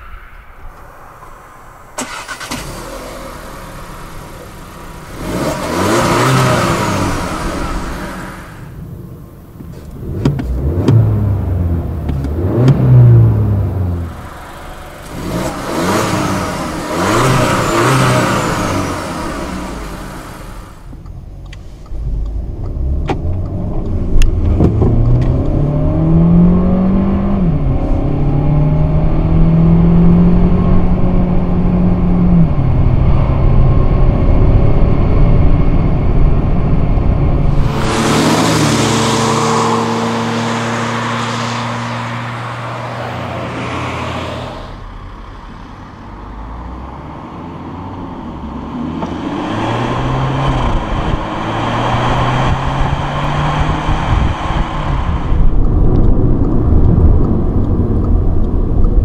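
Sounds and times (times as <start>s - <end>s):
rushing road noise: 0.0s - 59.0s
car engine accelerating through gears: 2.0s - 59.0s.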